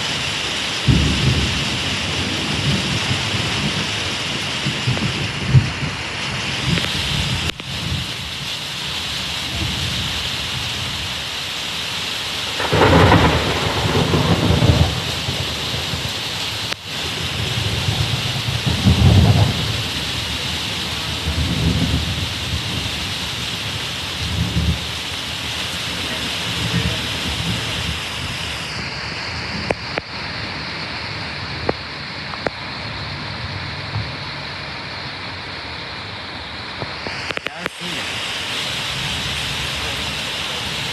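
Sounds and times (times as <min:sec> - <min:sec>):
thunder rumbling: 0:00.0 - 0:11.3, 0:12.4 - 0:35.3
heavy rain: 0:00.0 - 0:40.9.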